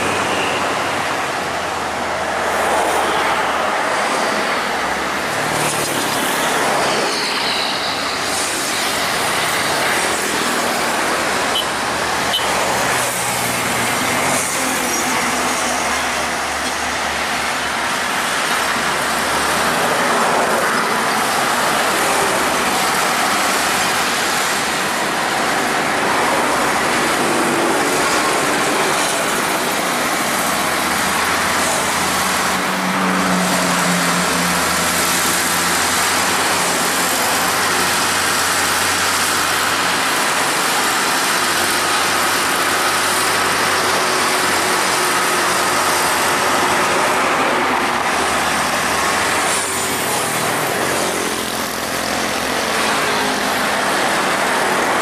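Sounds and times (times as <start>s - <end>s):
bulldozer diesel engine under load: 0.0s - 55.0s
hydraulic excavator working: 0.0s - 55.0s
steel tracks moving: 0.0s - 55.0s.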